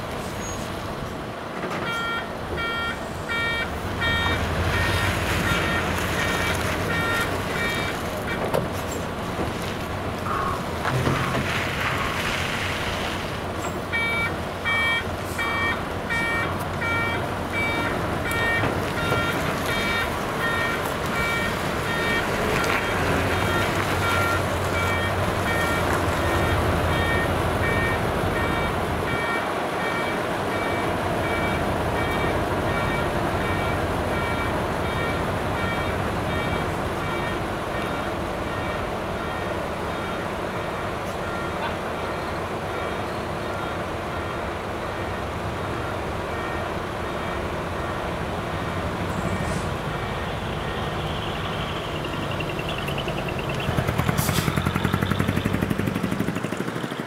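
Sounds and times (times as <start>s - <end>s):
diesel engine running: 0.0s - 57.0s
reversing alarm beeping: 1.8s - 8.5s, 13.8s - 56.2s.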